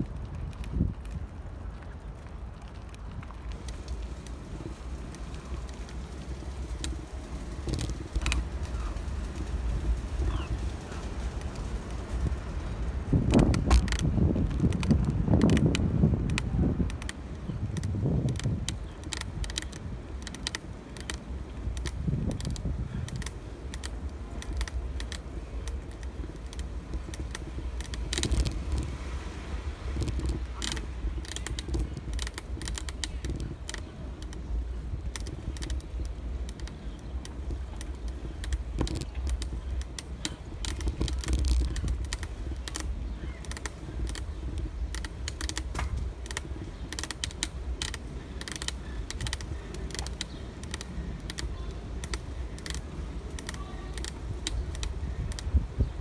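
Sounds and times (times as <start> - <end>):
bicycle clicking and rattling: 0.0 - 56.0
wind rumble on microphone: 0.0 - 56.0.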